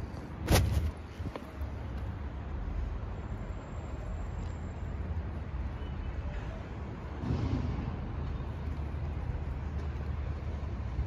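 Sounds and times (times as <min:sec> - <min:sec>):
street low rumble: 0:00.0 - 0:11.0.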